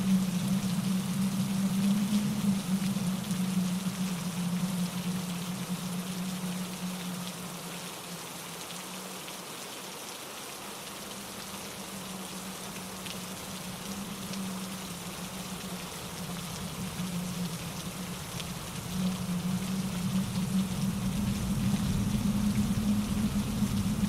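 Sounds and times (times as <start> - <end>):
rain falling through trees: 0.0 - 24.0
stream rushing over rocks: 0.0 - 24.0.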